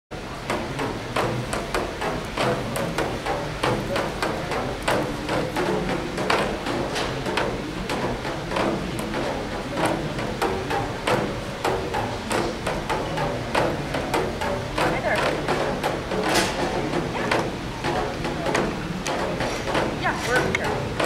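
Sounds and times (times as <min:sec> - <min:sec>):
sharp knocks and clacks: 0:00.1 - 0:21.0.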